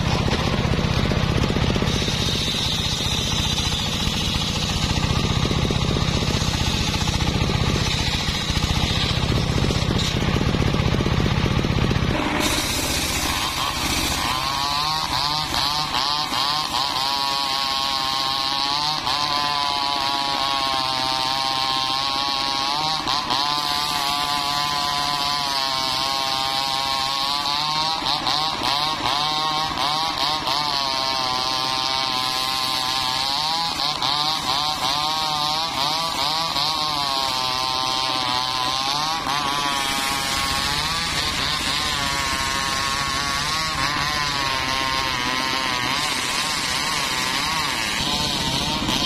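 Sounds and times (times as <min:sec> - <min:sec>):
circular saw cutting wood: 0:00.0 - 0:49.0
hiss of saw cut: 0:00.0 - 0:49.0.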